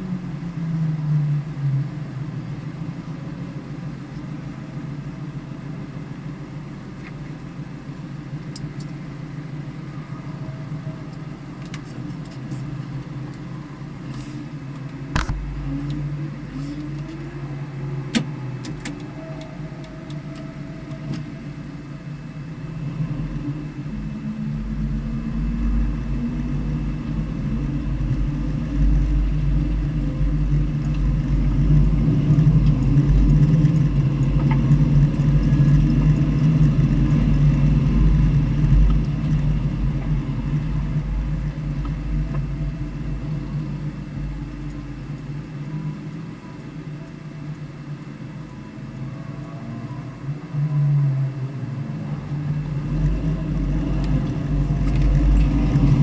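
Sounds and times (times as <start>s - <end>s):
race car engine droning: 0.0s - 56.0s.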